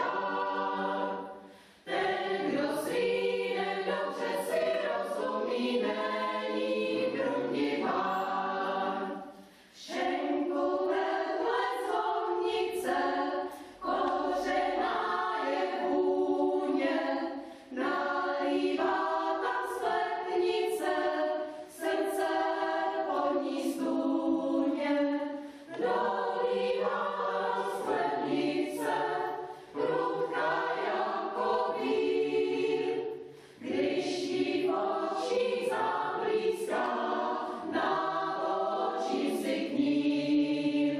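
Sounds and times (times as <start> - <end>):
mixed choir singing unaccompanied: 0.0 - 40.9.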